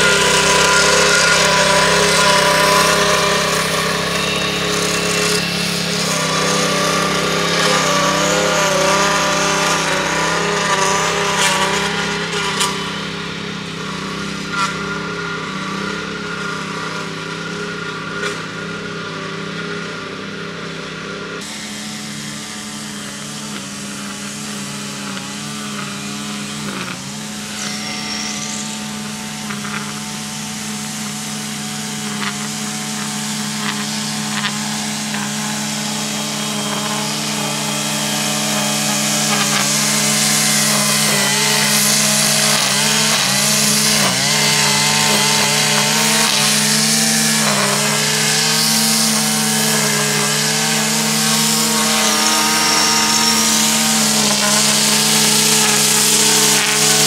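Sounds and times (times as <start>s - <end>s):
small petrol engine running: 0.0s - 57.0s.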